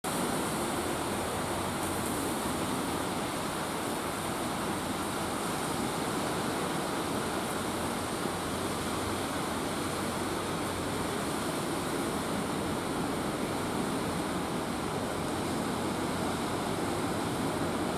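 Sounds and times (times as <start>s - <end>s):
waves breaking on rocky shore: 0.1s - 17.9s.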